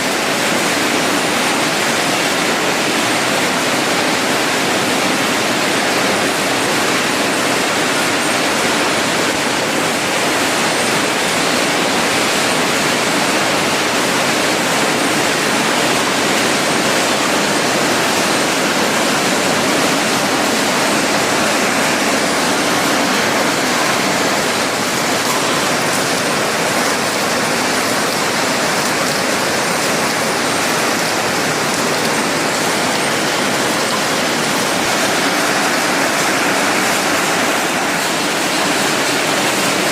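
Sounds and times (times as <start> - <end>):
machine running steady mechanical noise: 0.0 - 39.9.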